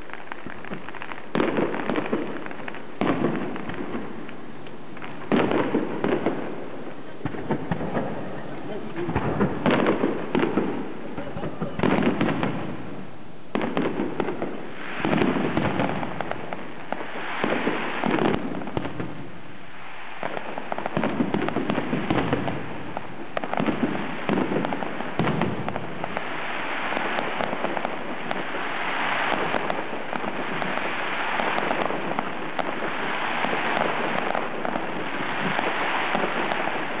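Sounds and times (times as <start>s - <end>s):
firework shells bursting: 0.0s - 12.9s, 13.5s - 37.0s
fireworks hissing: 0.0s - 37.0s.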